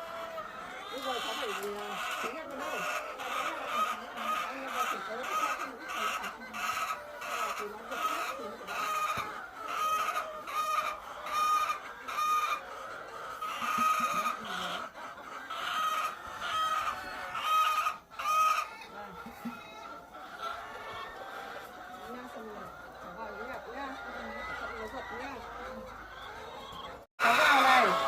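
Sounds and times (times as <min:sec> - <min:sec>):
background chicken clucking: 0:00.0 - 0:28.0
chickens clucking loudly: 0:00.0 - 0:28.0.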